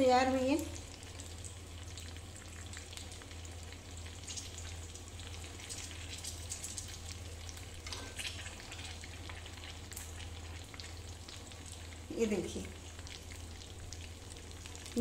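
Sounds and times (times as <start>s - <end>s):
chillies sizzling in hot oil: 0.0s - 15.0s.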